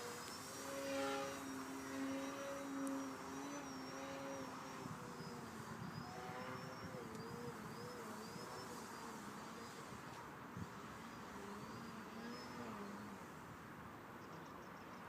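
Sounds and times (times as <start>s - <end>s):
model plane motor whining: 0.0s - 13.4s.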